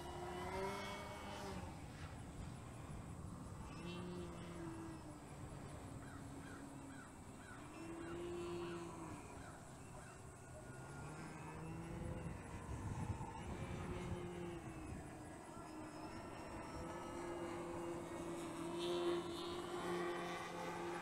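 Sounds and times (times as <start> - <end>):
model airplane motor drone: 0.0 - 21.0.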